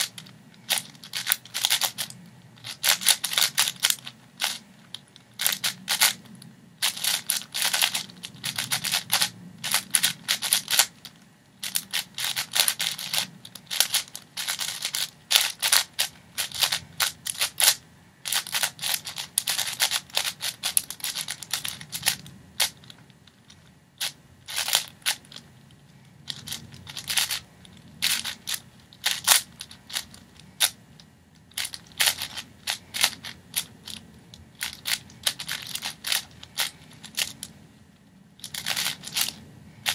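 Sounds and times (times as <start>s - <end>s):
puzzle cube clacking: 0.0s - 37.6s, 38.4s - 39.9s.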